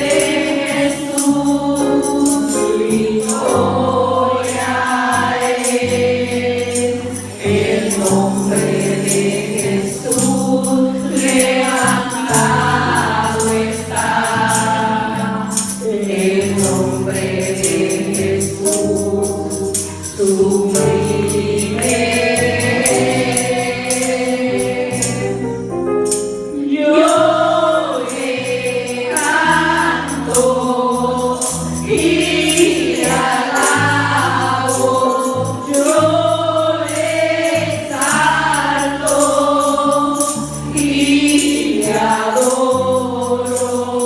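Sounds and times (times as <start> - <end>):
rhythmic percussion: 0.0 - 44.0
voices singing together: 0.0 - 44.0.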